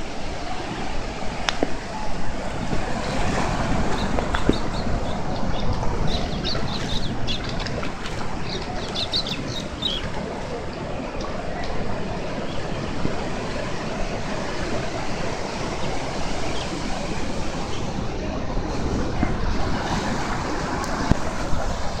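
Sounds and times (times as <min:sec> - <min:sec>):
surf breaking on beach: 0:00.0 - 0:22.0
wind rumbling on microphone: 0:00.0 - 0:22.0.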